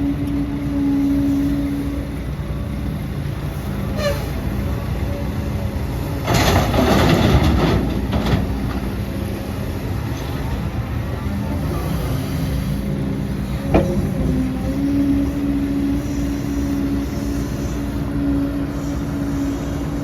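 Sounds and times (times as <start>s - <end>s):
diesel earthmoving machinery running: 0.0s - 20.0s.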